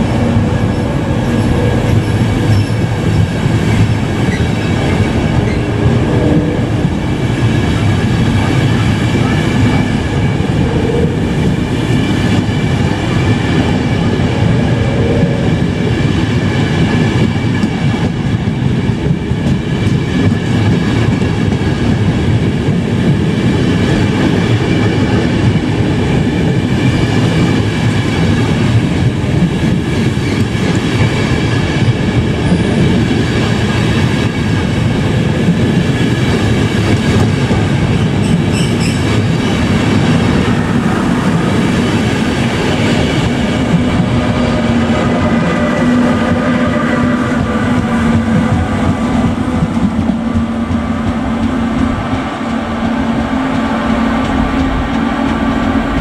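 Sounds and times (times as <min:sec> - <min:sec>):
wheel on rail rumble: 0:00.0 - 0:56.0.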